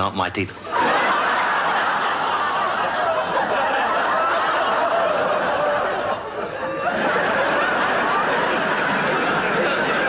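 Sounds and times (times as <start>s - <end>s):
audience laughing: 0.6s - 10.0s.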